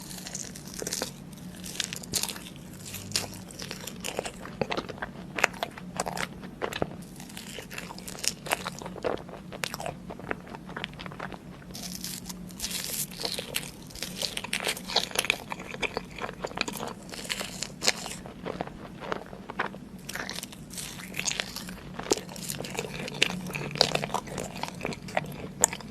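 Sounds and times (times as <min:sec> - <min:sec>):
crunchy food chewing: 0:00.0 - 0:25.9
faint low hum: 0:00.0 - 0:25.9.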